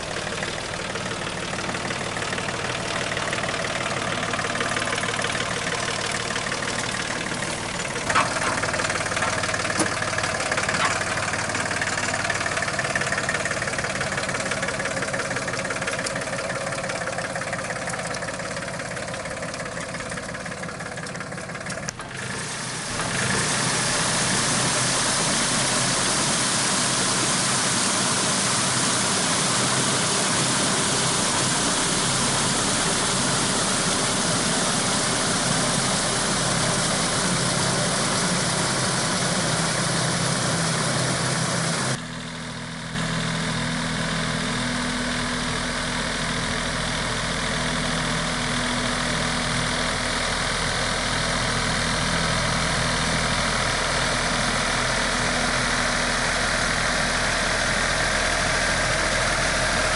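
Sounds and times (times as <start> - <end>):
harrow working mud and water: 0.0 - 59.9
tractor diesel engine running: 0.0 - 59.9.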